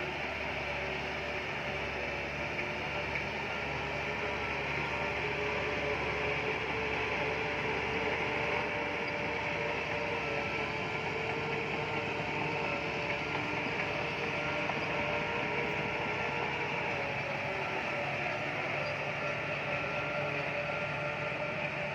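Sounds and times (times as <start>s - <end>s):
bulldozer diesel engine: 0.0s - 21.9s
bulldozer track noise: 0.0s - 21.9s.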